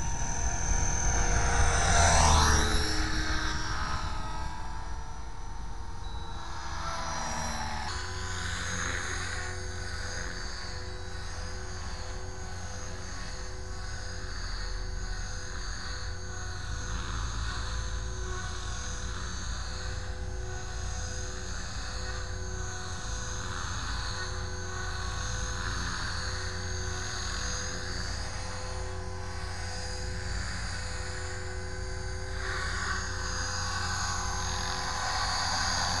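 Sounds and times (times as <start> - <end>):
rc helicopter motor whine: 0.0 - 36.0.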